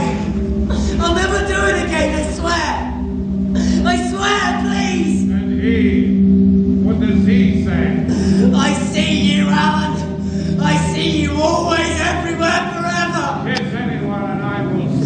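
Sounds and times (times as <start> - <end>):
choir singing wordlessly: 0.0 - 15.0
low vocal drone: 0.0 - 15.0.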